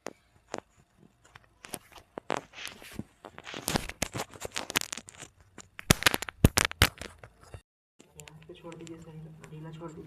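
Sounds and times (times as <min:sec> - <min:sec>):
crackling joint clicks: 0:00.0 - 0:09.6.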